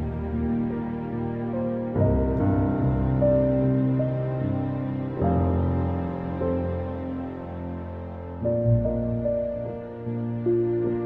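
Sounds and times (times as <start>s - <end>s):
soft piano-like chords: 0.0s - 11.0s.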